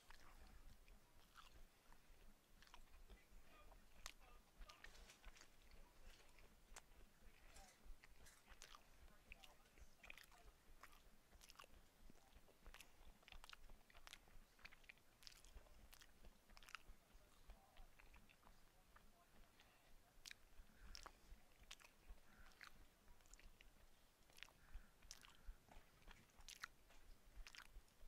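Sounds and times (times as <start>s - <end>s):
mouth chewing: 0.0s - 28.0s.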